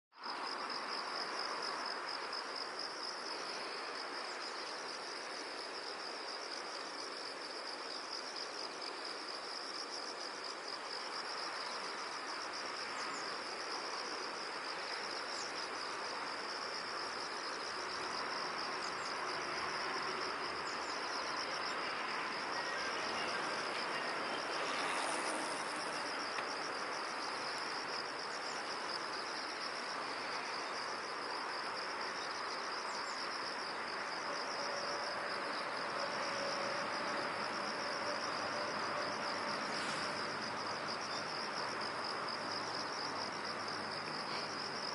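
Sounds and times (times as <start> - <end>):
background hiss: 0.2 - 44.9
insect chorus trilling: 0.2 - 44.9.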